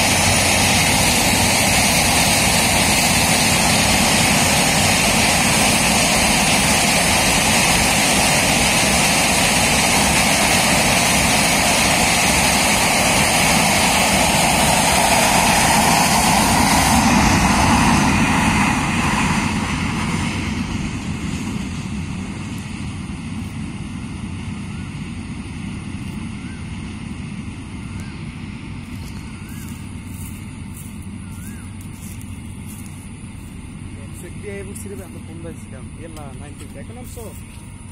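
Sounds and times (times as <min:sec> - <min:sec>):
train wheels on rail: 0:00.0 - 0:24.9, 0:28.8 - 0:37.9.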